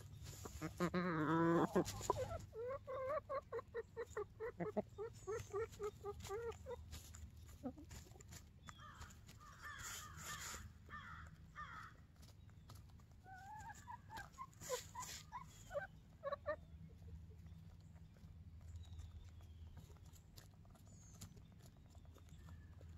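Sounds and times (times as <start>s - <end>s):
hens clucking softly: 0.0s - 22.9s
scratching and pecking in hay: 0.0s - 22.9s.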